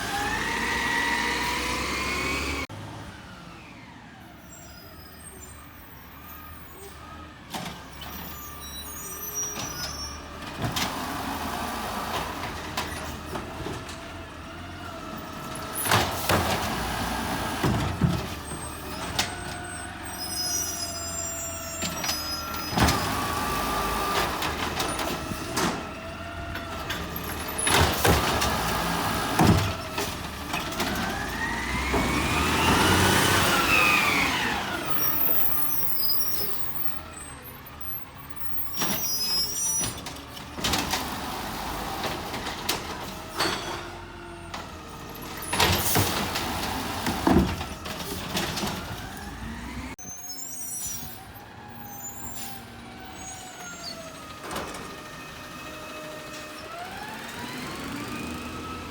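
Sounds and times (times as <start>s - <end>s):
garbage truck engine revving: 0.0s - 4.2s, 10.2s - 50.0s, 51.1s - 58.9s.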